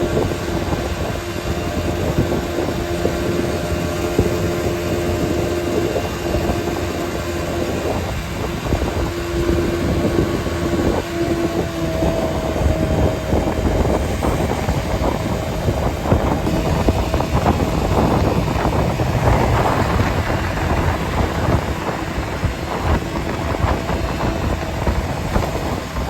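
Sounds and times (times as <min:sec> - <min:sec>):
humming tone: 0:00.0 - 0:26.0
vehicle road and engine noise: 0:00.0 - 0:26.0.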